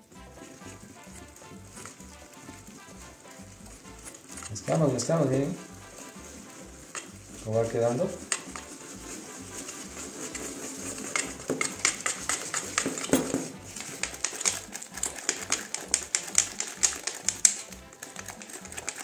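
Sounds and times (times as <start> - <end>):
whisk clicking against metal bowl: 0.1 - 19.0.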